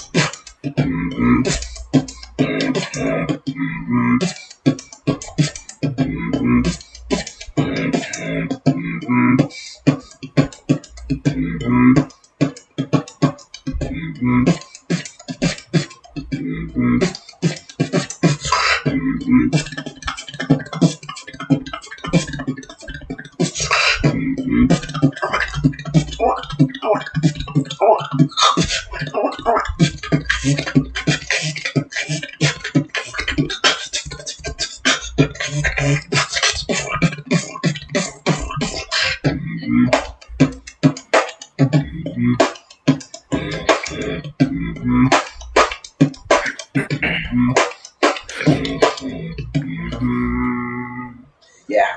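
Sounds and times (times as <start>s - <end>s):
beatboxing: 0.0s - 51.9s.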